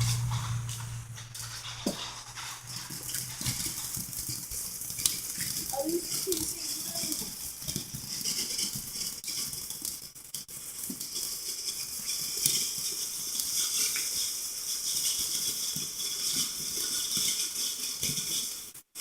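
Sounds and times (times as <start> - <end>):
firework hissing and crackling: 0.0 - 18.9.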